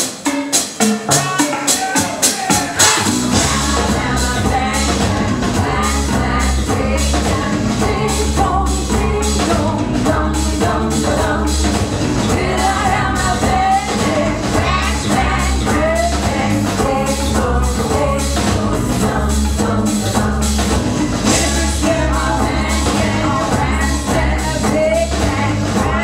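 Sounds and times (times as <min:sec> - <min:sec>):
song with singing: 0:00.0 - 0:26.0
pulsing bass beat: 0:01.1 - 0:26.0.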